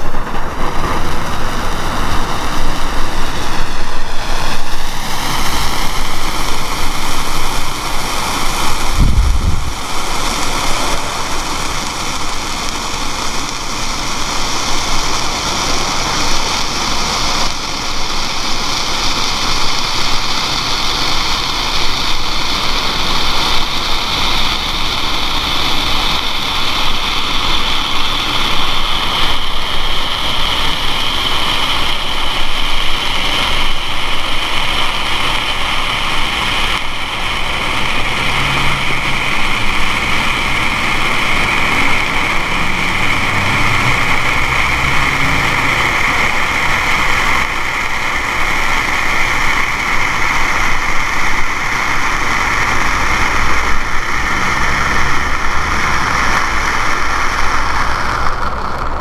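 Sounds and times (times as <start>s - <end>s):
flare burning with loud hiss: 0.0s - 59.0s.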